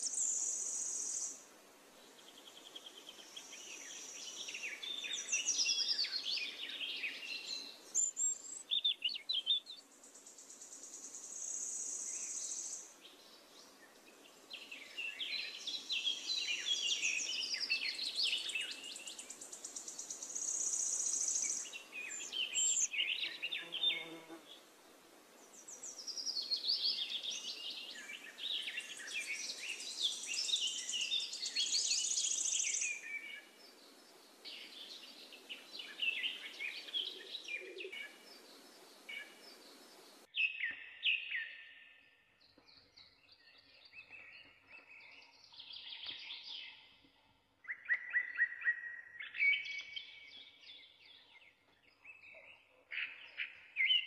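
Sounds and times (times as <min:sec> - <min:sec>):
birds chirping: 0:02.0 - 0:24.7, 0:25.3 - 0:54.0.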